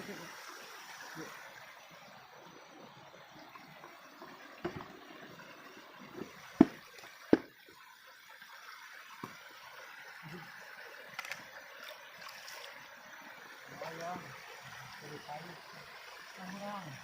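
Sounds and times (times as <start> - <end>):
stream water running: 0.0 - 17.0.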